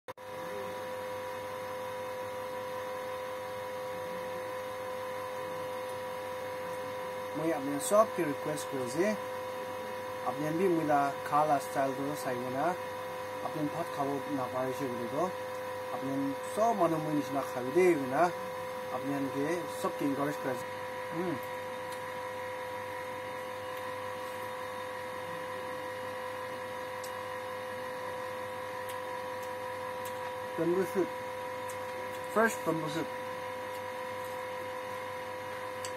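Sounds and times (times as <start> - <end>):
electrical hum: 0.2 - 35.9.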